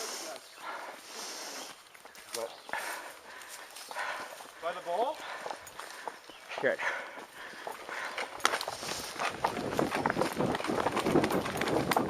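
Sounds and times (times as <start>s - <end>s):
footsteps of person running: 1.7s - 12.0s.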